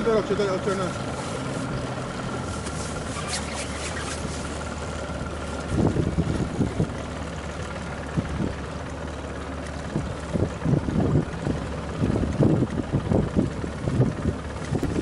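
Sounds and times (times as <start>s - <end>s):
boat motor idling: 0.0s - 15.0s
wind buffeting on microphone: 1.0s - 8.7s, 9.8s - 15.0s.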